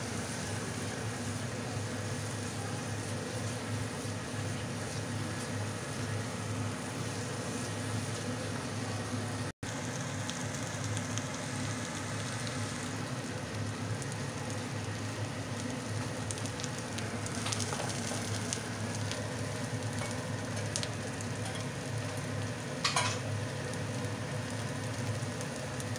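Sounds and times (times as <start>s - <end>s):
food sizzling in a pan: 0.0s - 25.9s.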